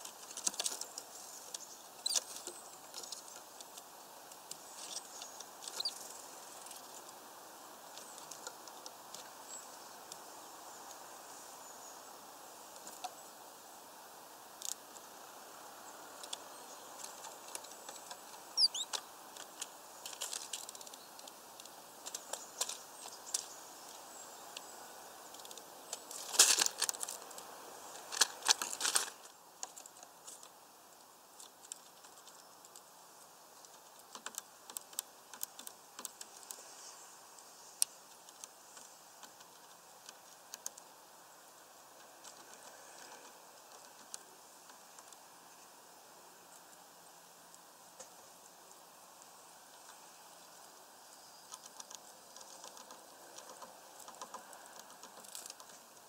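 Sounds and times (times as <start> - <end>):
birds pecking at feeder: 0.0 - 11.5, 12.6 - 45.7, 46.3 - 56.0.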